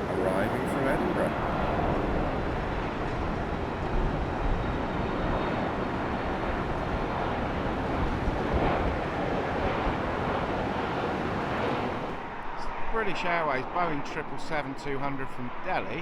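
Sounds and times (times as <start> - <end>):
jet airliner engines rumbling: 0.0 - 16.0.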